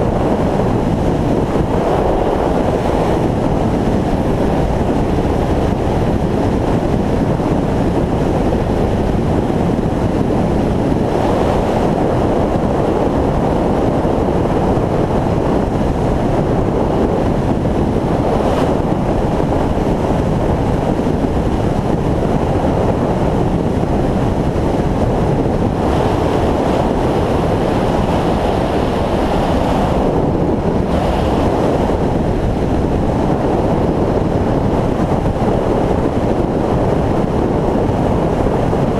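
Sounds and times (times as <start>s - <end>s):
motorcycle running noise: 0.0s - 38.9s
wind buffeting microphone: 0.0s - 38.9s.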